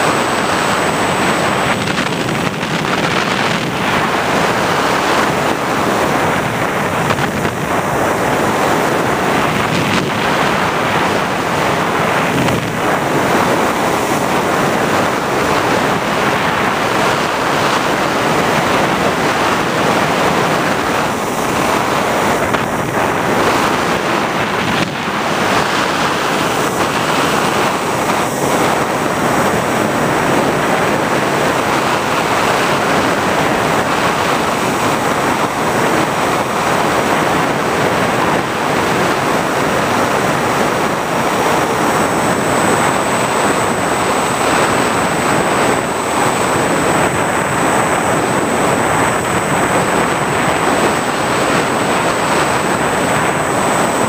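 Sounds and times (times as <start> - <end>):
airflow rushing over microphone: 0.0 - 54.0
thin high whine: 0.0 - 54.0.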